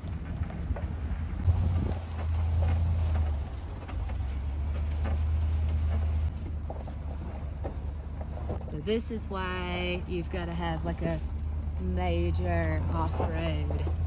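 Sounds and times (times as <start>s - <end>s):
knocks and rattles over bumps: 0.0s - 14.0s
vehicle rumbling on rocky dirt road: 0.0s - 14.0s.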